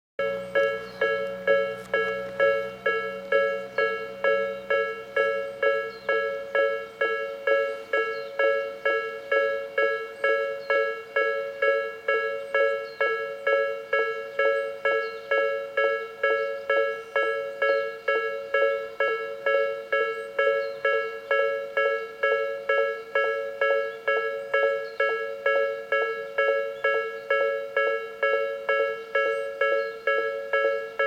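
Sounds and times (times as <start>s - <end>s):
level crossing alarm chime: 0.2s - 31.0s.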